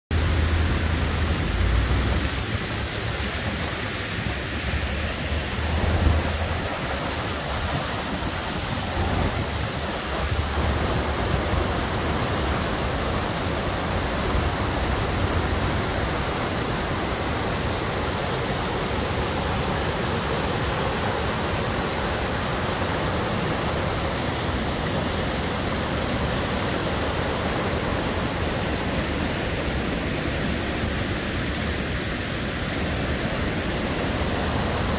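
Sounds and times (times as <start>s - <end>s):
river water rushing over dam: 0.1s - 34.9s.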